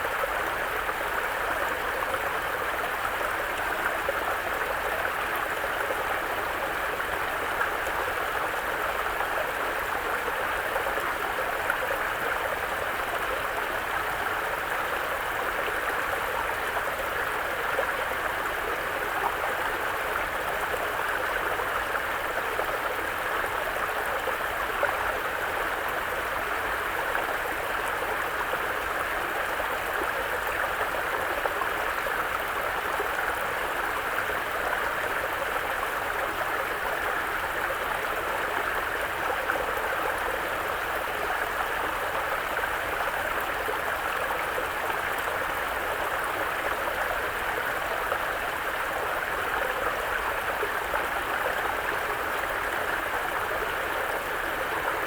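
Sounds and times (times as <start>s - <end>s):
brook flowing: 0.0s - 55.0s.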